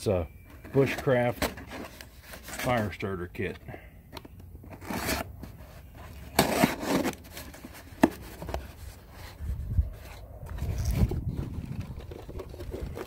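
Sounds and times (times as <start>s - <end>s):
cardboard rubbing and scraping: 0.8s - 3.0s, 4.7s - 13.0s.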